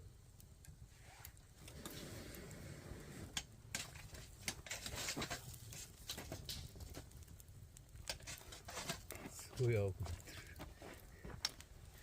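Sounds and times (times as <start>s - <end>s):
burning wood popping: 0.0s - 12.0s
campfire crackling: 0.0s - 12.0s
low rumble of fire: 0.0s - 12.0s.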